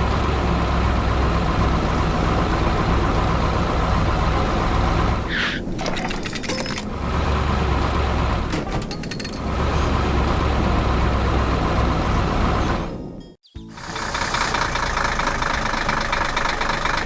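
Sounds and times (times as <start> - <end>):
heavy machine engine running: 0.0 - 12.9, 13.7 - 17.0.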